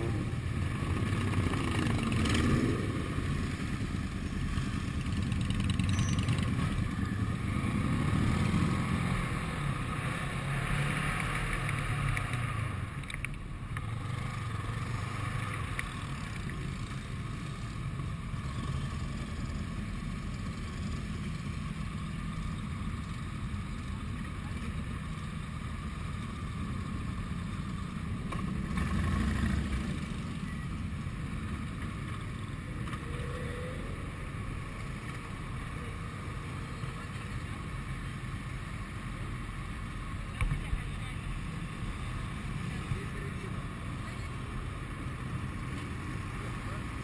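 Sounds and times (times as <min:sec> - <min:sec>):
motorcycle engines idling: 0:00.0 - 0:10.1, 0:11.2 - 0:47.0.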